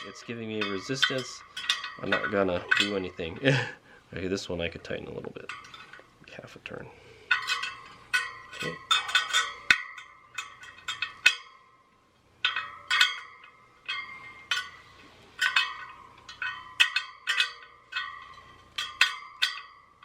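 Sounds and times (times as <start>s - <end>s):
spoke wrench clinking on spokes: 0.0s - 3.8s, 4.4s - 6.2s, 6.9s - 20.0s.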